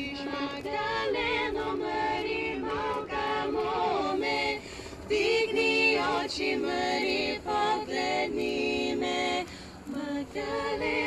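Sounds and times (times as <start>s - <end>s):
women singing a cappella in harmony: 0.0s - 11.0s.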